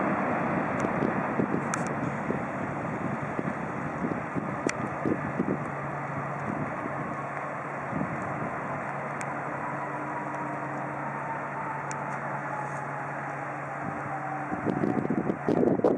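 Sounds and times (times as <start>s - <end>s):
jet engine whine: 0.0s - 15.9s
jet engines running: 0.0s - 15.9s.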